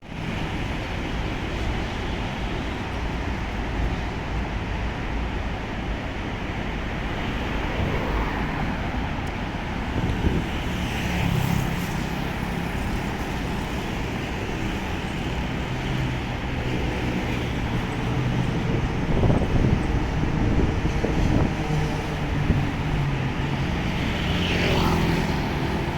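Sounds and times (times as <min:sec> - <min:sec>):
freight train rumble: 0:00.0 - 0:25.9.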